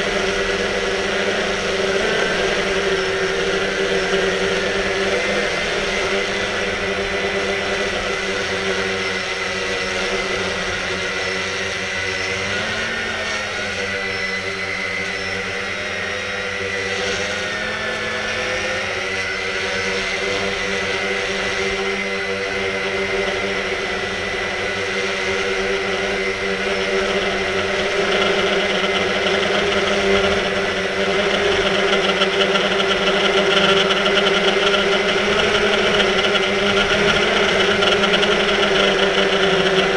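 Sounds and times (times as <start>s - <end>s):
quadcopter propellers whining: 0.0s - 39.9s.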